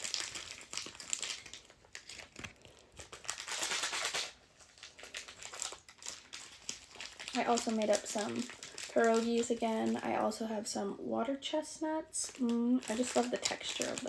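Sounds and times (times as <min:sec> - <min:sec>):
plastic packets crinkling: 0:00.0 - 0:10.6, 0:12.1 - 0:14.0.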